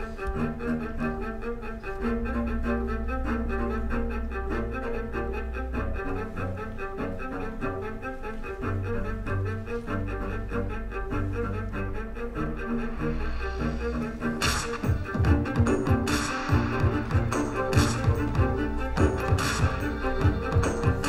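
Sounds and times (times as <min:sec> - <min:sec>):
deep sustained bass notes: 0:00.2 - 0:21.0.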